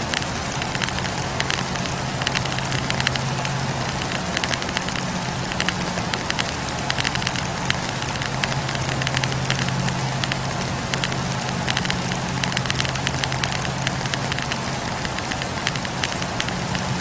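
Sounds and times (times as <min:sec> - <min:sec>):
logs crackling: 0:00.0 - 0:17.0
low steady hum: 0:00.0 - 0:17.0.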